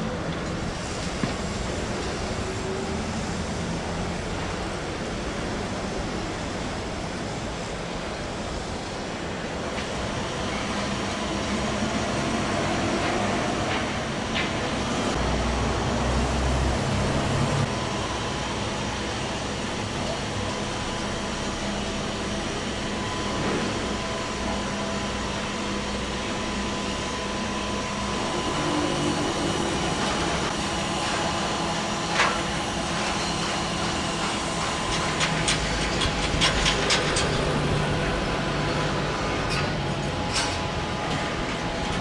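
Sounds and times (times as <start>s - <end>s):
machinery and engines humming: 0.0s - 42.0s.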